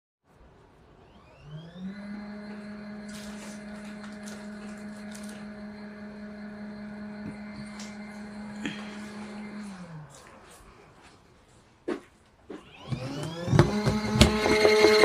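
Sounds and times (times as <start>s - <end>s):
washing machine motor humming: 1.0s - 11.1s, 12.5s - 15.0s.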